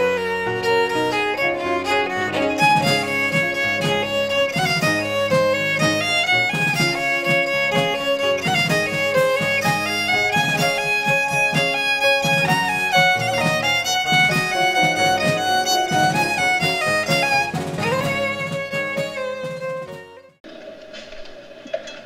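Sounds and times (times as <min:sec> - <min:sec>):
lively fiddle tune: 0:00.0 - 0:20.4
steady beat: 0:00.0 - 0:20.4.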